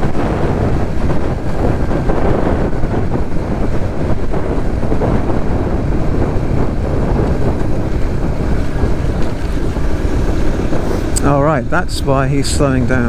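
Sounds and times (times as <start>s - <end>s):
motorcycle engine: 0.0s - 13.0s
road noise: 0.0s - 13.0s
wind rushing over microphone: 0.0s - 13.0s.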